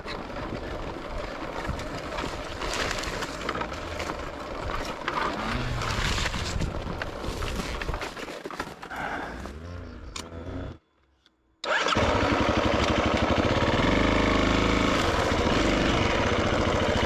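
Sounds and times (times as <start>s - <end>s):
tyres rattling over rough track: 0.0s - 10.8s, 11.9s - 17.0s
bushes scraping along motorcycle: 0.1s - 10.8s, 11.7s - 17.0s.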